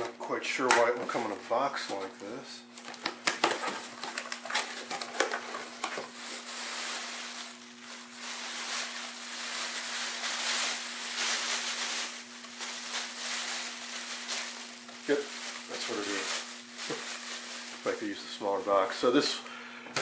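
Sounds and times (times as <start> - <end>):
plastic bag rustling: 1.0 - 19.4.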